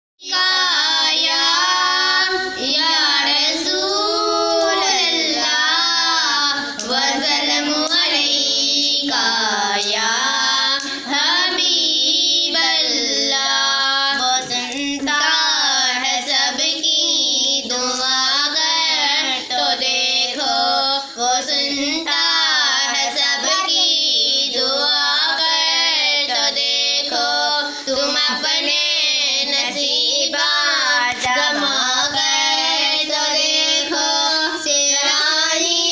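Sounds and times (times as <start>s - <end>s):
girl singing a devotional hymn: 0.2s - 35.9s.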